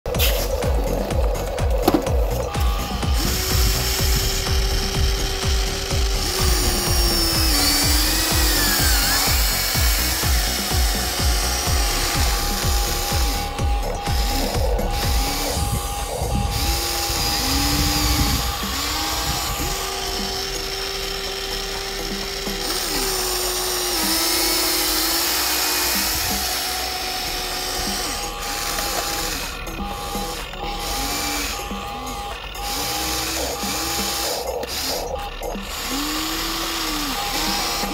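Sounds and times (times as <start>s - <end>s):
toy excavator motors whining: 0.0s - 37.9s.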